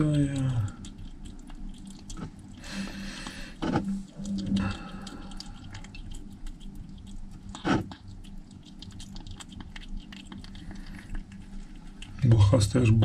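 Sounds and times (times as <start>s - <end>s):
kitten chewing wet food: 0.0s - 13.0s.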